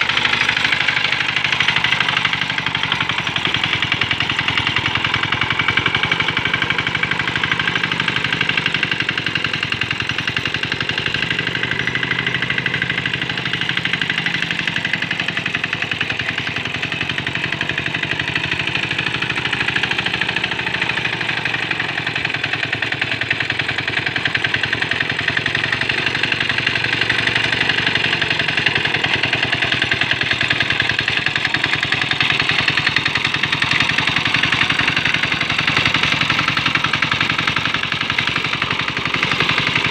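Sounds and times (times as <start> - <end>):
small diesel engine running: 0.0 - 39.9.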